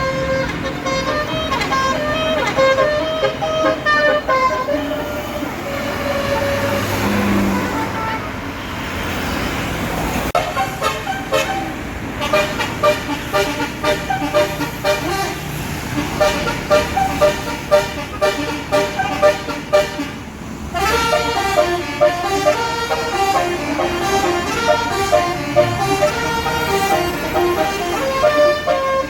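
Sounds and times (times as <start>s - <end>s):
musical bus horn playing: 0.0s - 8.5s, 10.3s - 29.0s.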